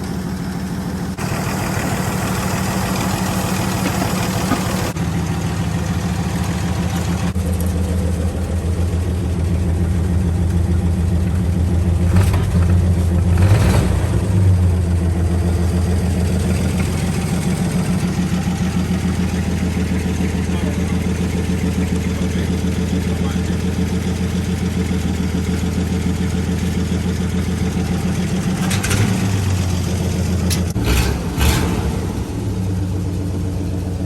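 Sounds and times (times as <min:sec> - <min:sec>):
petrol engine running: 0:00.0 - 0:34.0.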